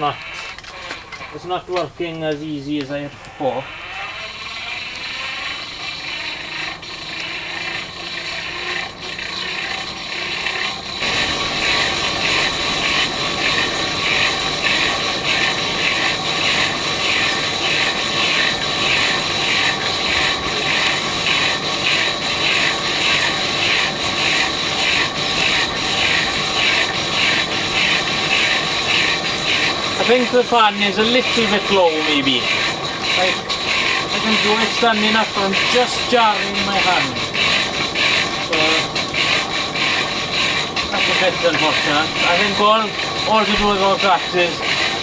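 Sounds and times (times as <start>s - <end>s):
hand-cranked blower gears whirring: 0.0s - 45.0s
rhythmic gear clatter: 0.0s - 45.0s.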